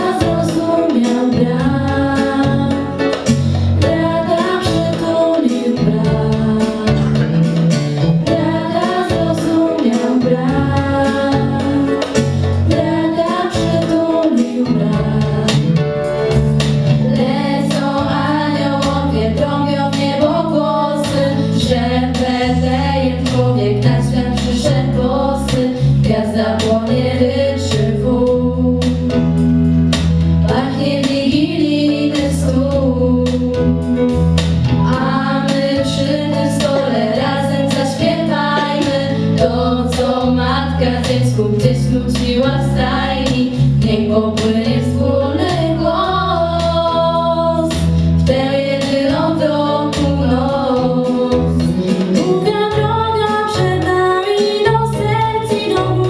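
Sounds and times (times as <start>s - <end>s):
girls' vocal group singing carol: 0.0s - 3.2s, 3.8s - 7.2s, 8.3s - 15.6s, 17.1s - 29.0s, 30.4s - 33.6s, 34.8s - 56.0s
instrumental accompaniment: 0.0s - 56.0s.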